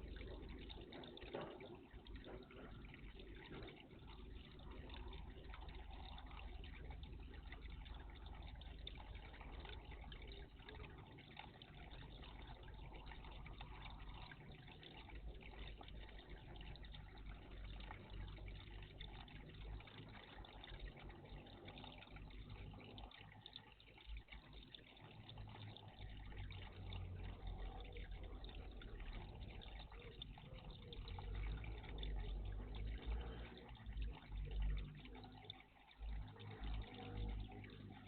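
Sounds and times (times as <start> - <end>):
water trickling and splashing: 0.0 - 38.0.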